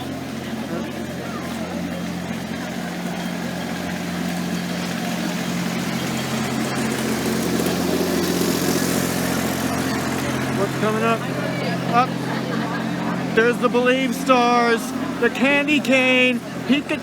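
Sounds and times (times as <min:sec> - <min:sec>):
engine humming: 0:00.0 - 0:17.0
street noise: 0:00.0 - 0:17.0.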